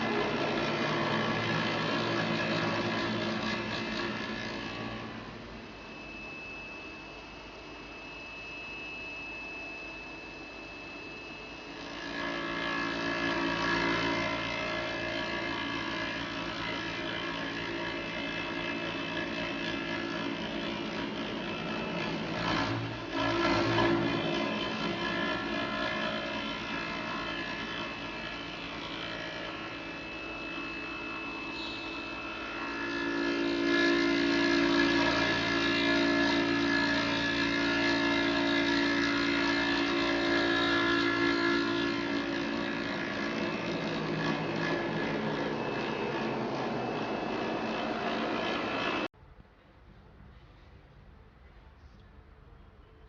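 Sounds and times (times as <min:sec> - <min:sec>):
milling machine whine: 0:00.0 - 0:49.1.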